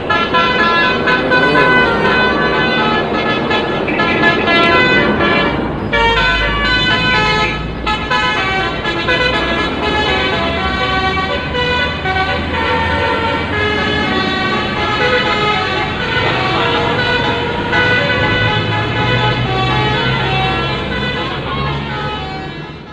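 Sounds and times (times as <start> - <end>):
musical bus horn: 0.0 - 22.9
road traffic noise: 0.0 - 22.9.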